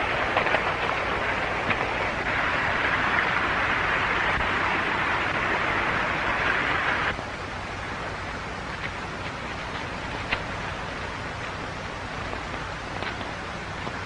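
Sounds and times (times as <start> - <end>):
steady rushing hiss: 0.0 - 14.0.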